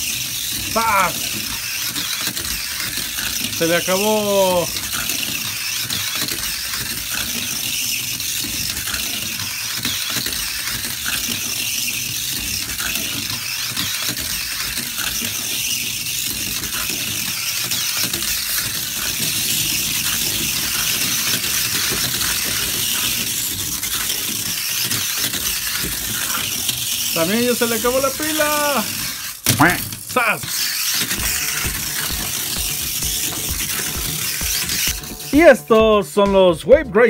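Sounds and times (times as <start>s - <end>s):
wheels rattling on plastic track: 0.0s - 35.7s
tiny toy car motors whirring: 0.0s - 36.4s.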